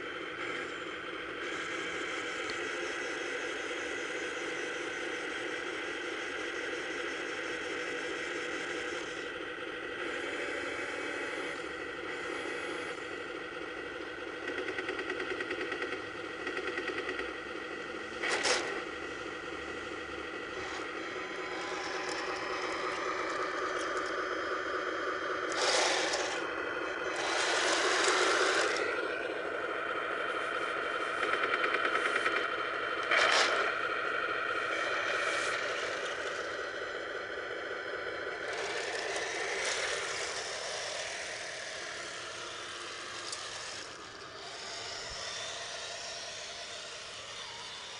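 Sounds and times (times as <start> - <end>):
pitched engine sound effect: 0.0 - 47.9
small electric motors whirring: 0.0 - 47.9.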